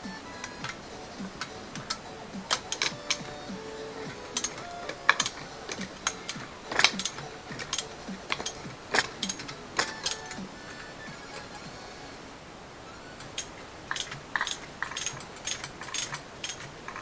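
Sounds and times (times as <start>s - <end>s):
faint background music: 0.0s - 17.0s
metallic clicks of hand tools: 0.4s - 10.5s, 13.2s - 17.0s.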